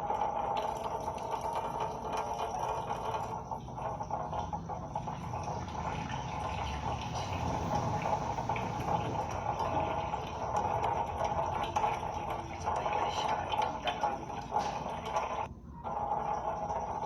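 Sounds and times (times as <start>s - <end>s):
water running and splashing: 0.0s - 17.0s.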